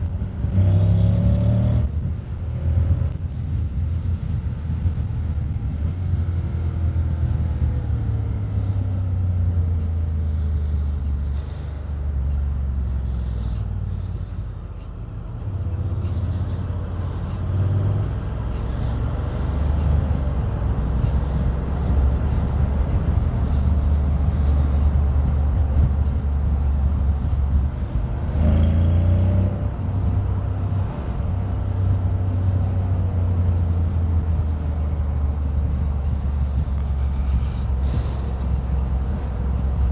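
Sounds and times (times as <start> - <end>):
motorcycle engine revving: 0.0 - 3.5, 4.2 - 34.5
wind and road noise: 0.0 - 39.9.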